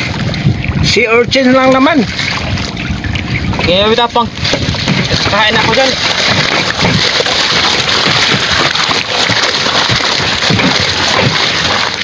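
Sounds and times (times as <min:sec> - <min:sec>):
seawater splashing and sloshing: 0:00.0 - 0:12.0.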